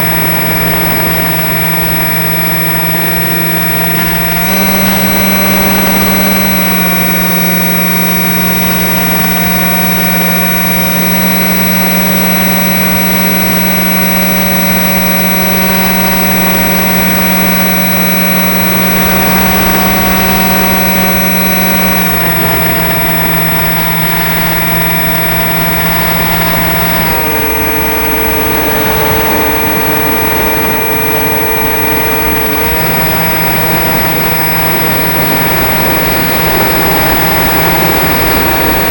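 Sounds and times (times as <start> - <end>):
model plane motor whining: 0.0 - 38.9.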